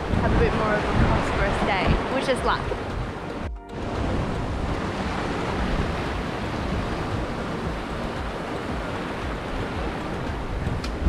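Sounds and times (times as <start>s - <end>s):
surf washing against concrete: 0.0s - 11.0s
wind buffeting microphone: 0.0s - 11.0s.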